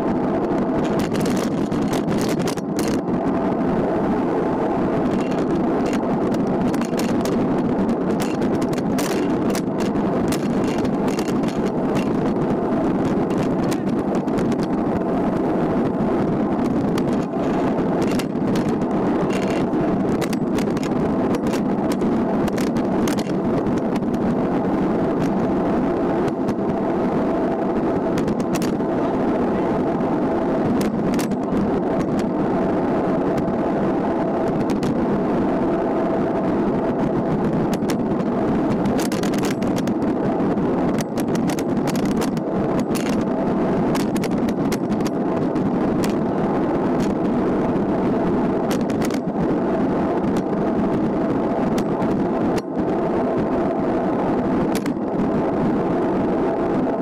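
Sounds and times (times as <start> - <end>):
bike tyres on asphalt: 0.0 - 57.0
faint steady hum: 0.0 - 57.0
wind rushing: 0.0 - 57.0
sharp clicks over bumps: 0.4 - 57.0.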